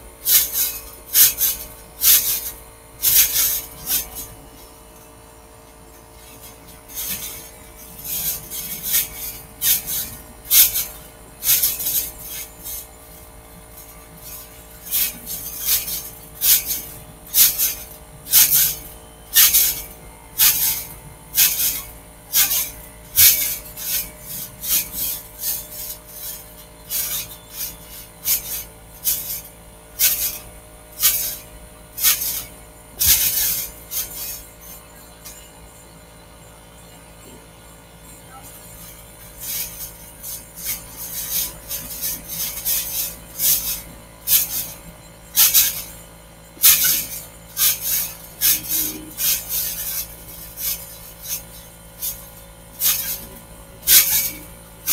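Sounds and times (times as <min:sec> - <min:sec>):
trampoline springs creaking: 0:00.0 - 0:54.9.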